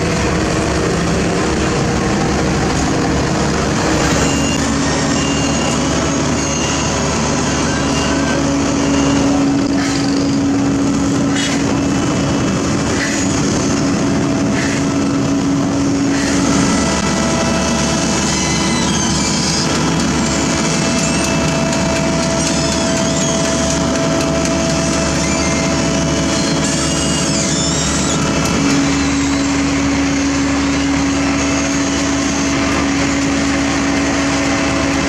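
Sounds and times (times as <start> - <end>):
conveyor chains carrying asphalt: 0.0 - 35.0
paver engine running: 0.0 - 35.0.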